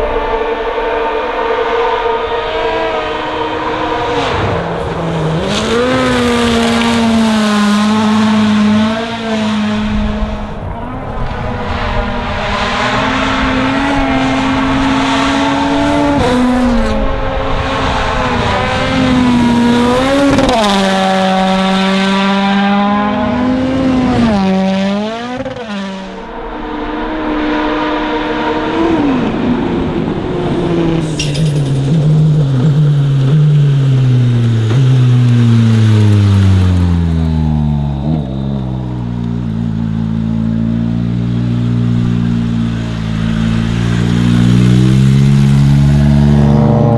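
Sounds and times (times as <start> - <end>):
rally car engine driven hard: 0.0 - 46.9.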